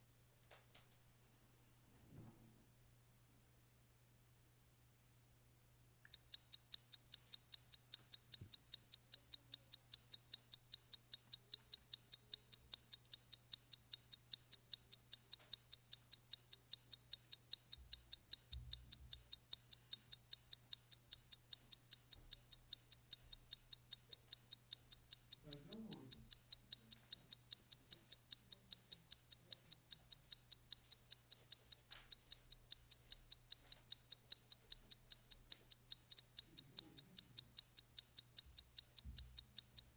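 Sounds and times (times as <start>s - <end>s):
clock ticking: 6.0s - 39.9s.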